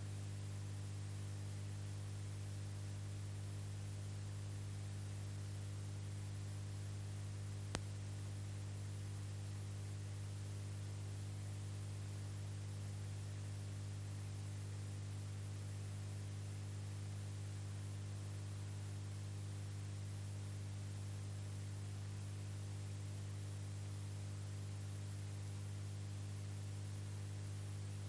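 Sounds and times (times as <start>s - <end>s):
electrical hum with hiss: 0.0s - 28.0s.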